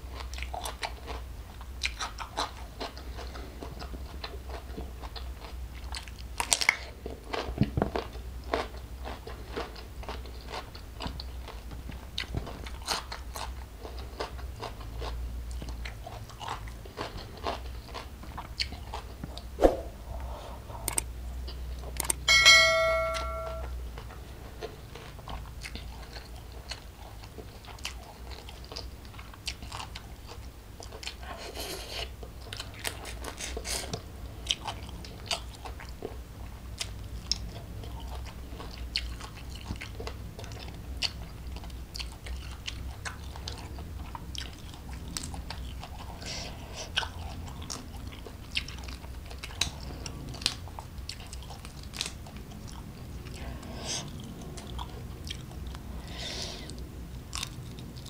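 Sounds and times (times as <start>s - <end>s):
chewing and crunching: 0.0s - 19.5s, 20.8s - 22.3s, 23.8s - 58.0s.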